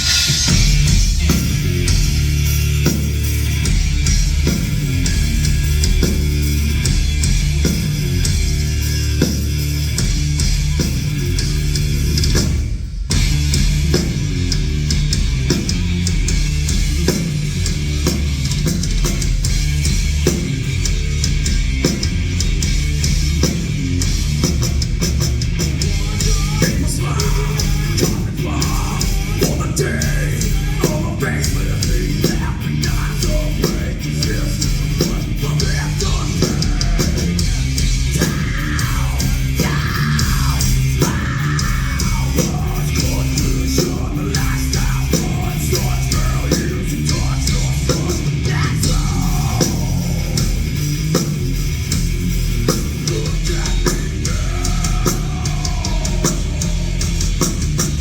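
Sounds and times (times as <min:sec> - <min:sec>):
drum kit pounding: 0:00.0 - 0:58.0
heavy metal band playing: 0:00.0 - 0:58.0.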